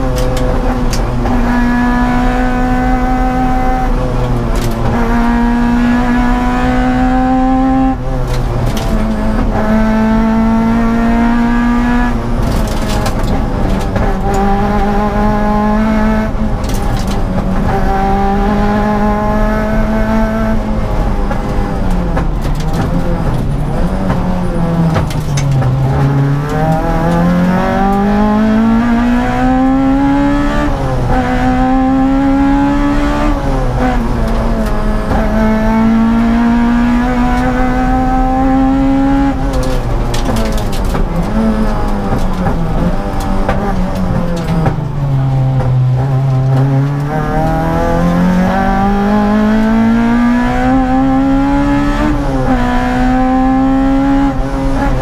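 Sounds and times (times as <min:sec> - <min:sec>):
car engine revving through gears: 0:00.0 - 0:55.0.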